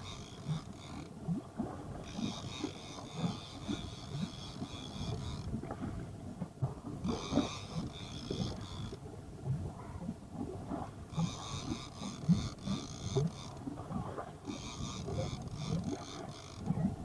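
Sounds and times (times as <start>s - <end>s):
fishing reel whirring: 0.0s - 6.2s, 6.8s - 9.0s, 10.7s - 17.0s.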